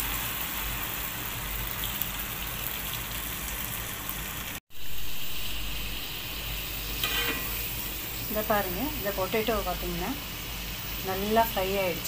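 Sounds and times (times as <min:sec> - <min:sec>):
potatoes deep-frying in oil: 0:00.0 - 0:12.0.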